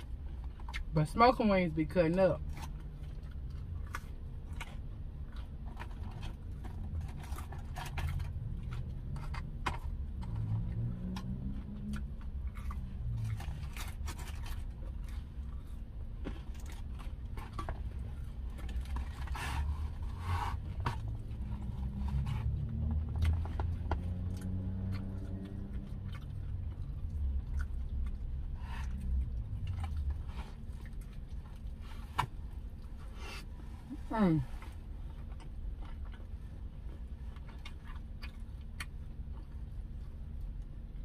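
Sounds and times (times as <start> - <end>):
person chewing: 0.0 - 0.9, 2.4 - 34.0, 34.6 - 41.0.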